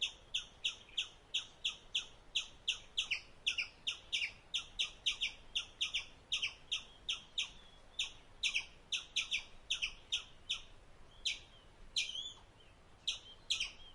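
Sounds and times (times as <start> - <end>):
squirrel wavering call: 0.0 - 12.4, 13.0 - 13.9
squirrel chirping: 0.0 - 13.9.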